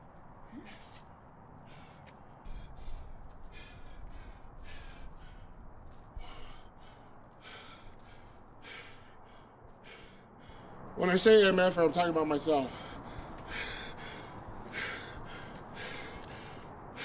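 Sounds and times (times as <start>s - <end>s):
man panting hard: 0.6s - 11.0s, 12.5s - 17.0s.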